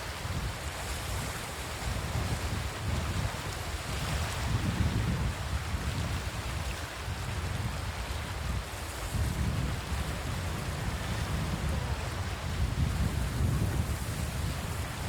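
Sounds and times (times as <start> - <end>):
waves washing ashore: 0.0 - 15.0
wind buffeting microphone: 0.0 - 15.0.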